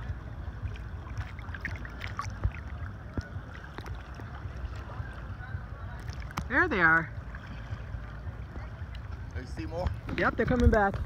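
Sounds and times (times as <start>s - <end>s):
seawater lapping and sloshing: 0.0s - 11.0s
wind rumble on microphone: 0.0s - 11.0s.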